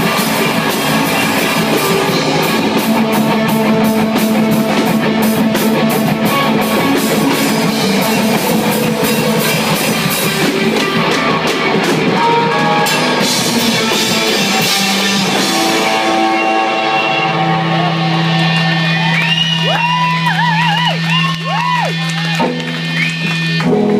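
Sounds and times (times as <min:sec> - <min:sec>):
drums: 0:00.0 - 0:23.9
electric guitar: 0:00.0 - 0:23.9.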